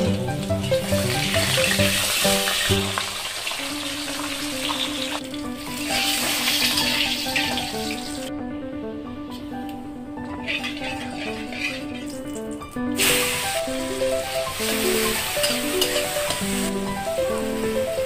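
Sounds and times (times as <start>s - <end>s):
fish sizzling in hot oil: 0.0s - 8.3s, 10.4s - 18.0s
background music of held notes: 0.0s - 18.0s.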